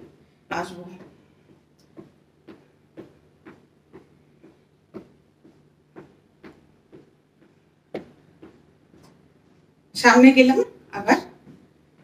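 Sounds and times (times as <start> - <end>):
footsteps marching on rug: 0.0 - 12.0.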